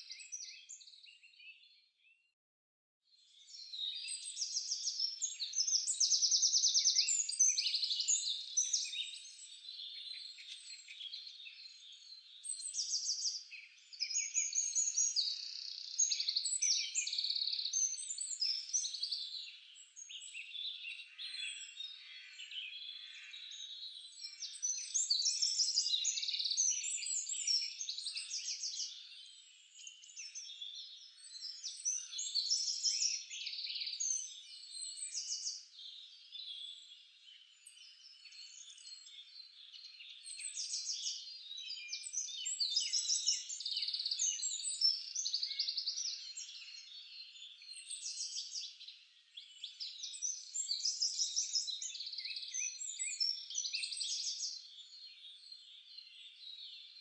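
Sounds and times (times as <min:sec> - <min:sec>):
songbirds chirping and trilling: 0:00.0 - 0:02.3, 0:03.1 - 0:57.0.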